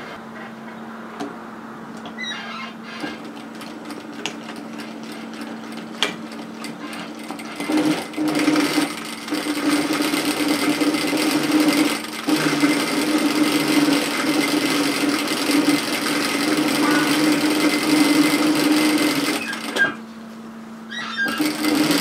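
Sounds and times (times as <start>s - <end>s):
sewing machine humming: 2.8s - 20.0s, 21.0s - 22.0s
sewing machine stitching: 2.9s - 20.0s, 21.0s - 22.0s.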